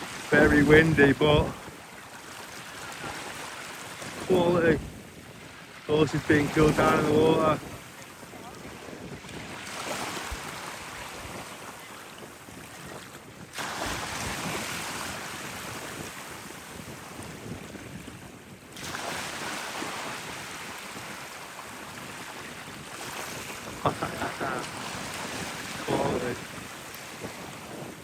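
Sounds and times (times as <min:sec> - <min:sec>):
sea surf breaking: 0:00.0 - 0:17.6, 0:18.7 - 0:28.0
wind buffeting microphone: 0:00.0 - 0:28.0.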